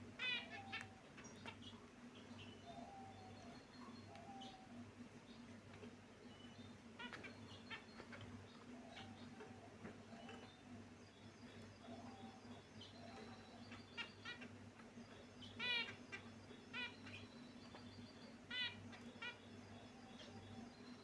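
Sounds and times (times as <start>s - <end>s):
finches chirping: 0.2s - 5.6s, 6.2s - 21.0s.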